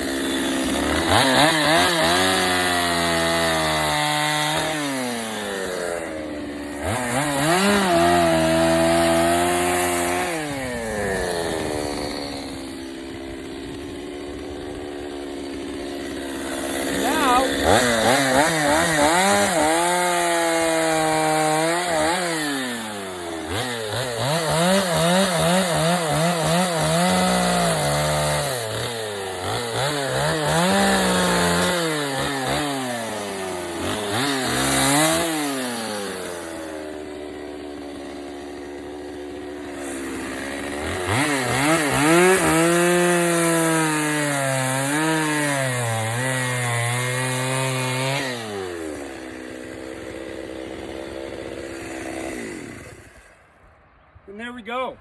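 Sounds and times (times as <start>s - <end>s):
chainsaw cutting into log: 0.0s - 53.6s.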